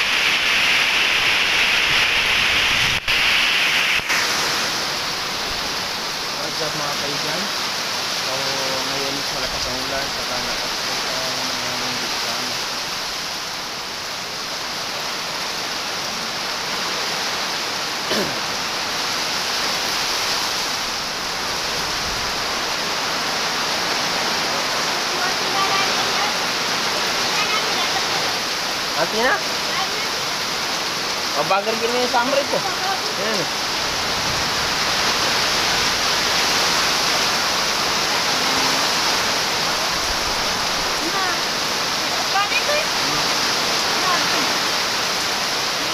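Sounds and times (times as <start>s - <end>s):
heavy rain hissing: 0.0s - 45.9s
wind: 0.0s - 45.9s.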